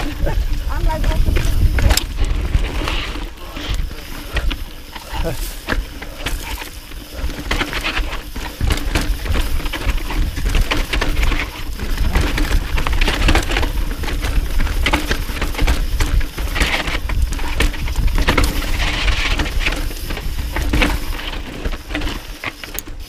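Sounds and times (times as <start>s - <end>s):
bike rattling: 0.0s - 23.0s
tyres crunching over rocks: 0.0s - 23.0s
wind rumble on microphone: 0.0s - 23.0s.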